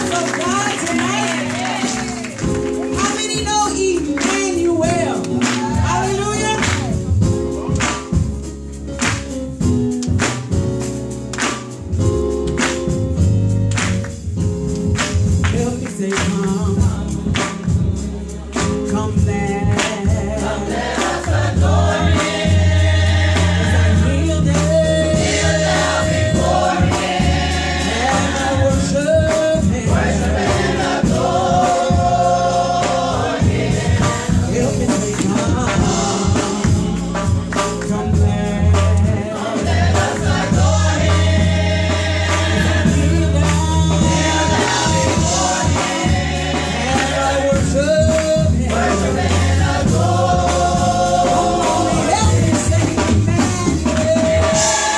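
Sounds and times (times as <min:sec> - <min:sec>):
gospel choir singing: 0:00.0 - 0:08.4, 0:15.3 - 0:54.9
instrumental backing with heavy bass: 0:00.0 - 0:54.9.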